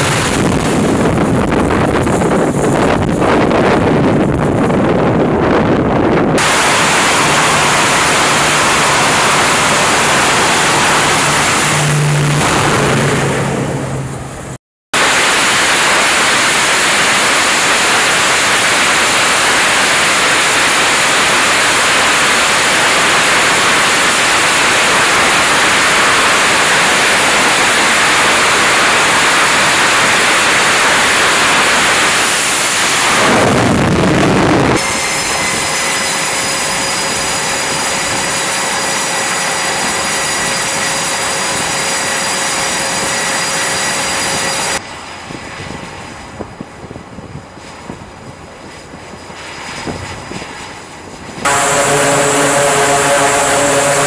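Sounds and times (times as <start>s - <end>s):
jet engines roaring: 0.0s - 46.3s, 49.4s - 54.0s
high jet engine whine: 0.0s - 54.0s.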